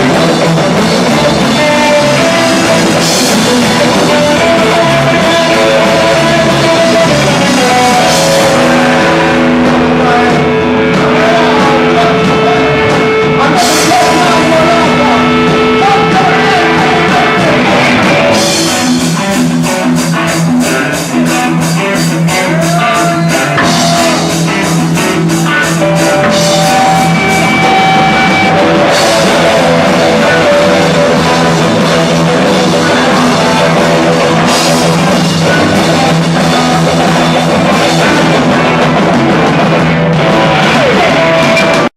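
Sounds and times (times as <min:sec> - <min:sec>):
punk rock band playing live: 0:00.0 - 0:41.9.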